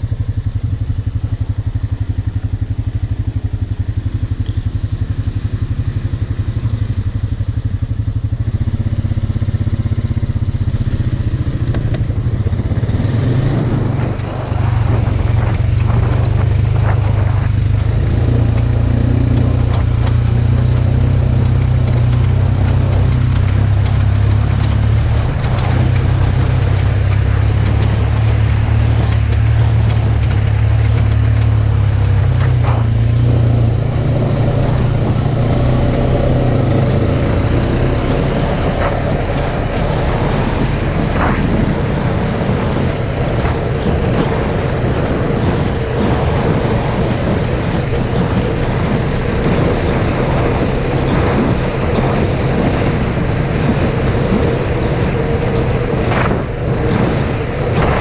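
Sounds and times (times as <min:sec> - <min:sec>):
knocks and rattles of vehicle: 0:00.0 - 0:58.0
off-road vehicle engine running: 0:00.0 - 0:58.0.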